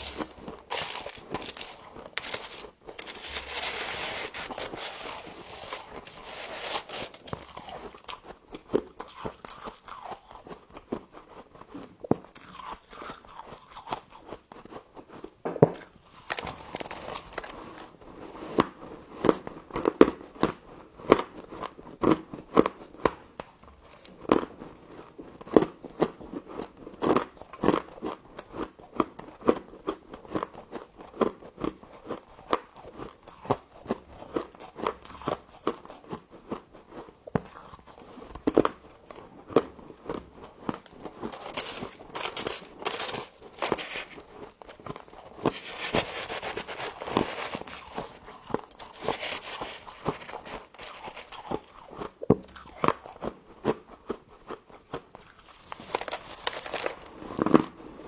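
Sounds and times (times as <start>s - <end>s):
crisp chewing crunches: 0.0s - 18.6s, 27.2s - 58.0s.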